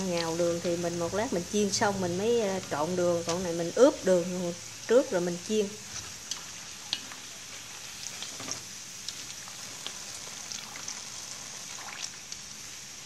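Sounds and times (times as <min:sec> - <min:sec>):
oil sizzling with pops: 0:00.0 - 0:13.0.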